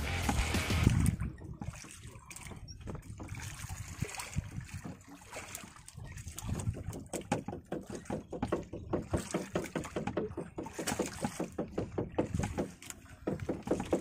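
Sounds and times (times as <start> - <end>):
rapid knocking on boat: 0.0 - 5.8, 6.4 - 14.0.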